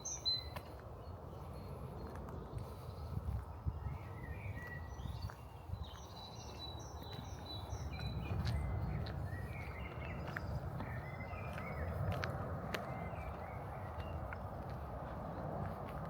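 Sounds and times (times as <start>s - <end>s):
small birds chirping: 0.0s - 15.9s
footsteps on a path: 0.0s - 16.0s
steady low rumble: 0.8s - 16.0s.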